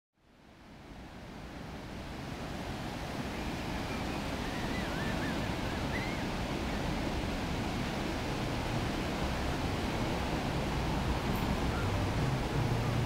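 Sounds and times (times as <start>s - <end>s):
ocean surf washing onto beach: 0.4s - 13.0s
wind buffeting microphone: 1.1s - 13.0s.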